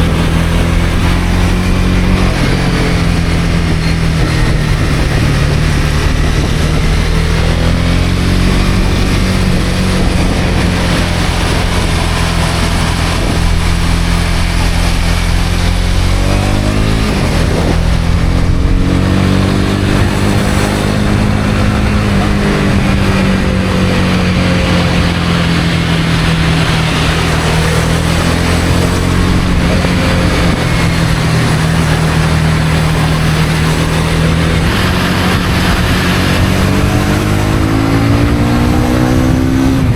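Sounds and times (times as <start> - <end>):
motorcycle engine running: 0.0 - 39.9
wind: 0.0 - 39.9.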